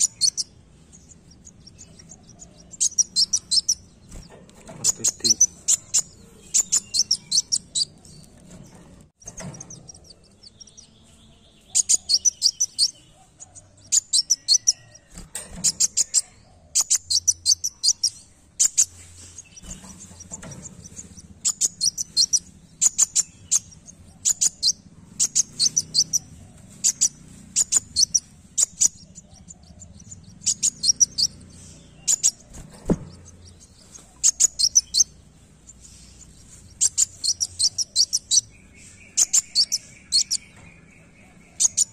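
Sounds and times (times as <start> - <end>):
sunbird chirping: 0.0 - 41.9.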